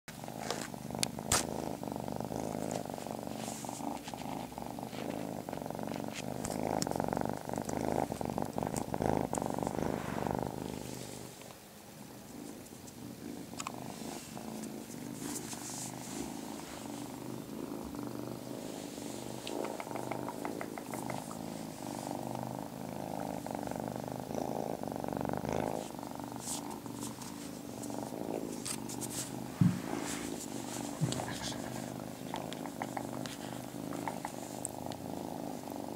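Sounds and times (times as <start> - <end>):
kitten purring: 0.1 - 35.9.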